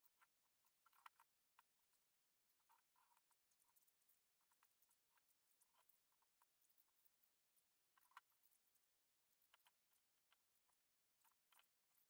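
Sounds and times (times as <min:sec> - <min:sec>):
faint short clicks and crackles: 0:00.0 - 0:12.0.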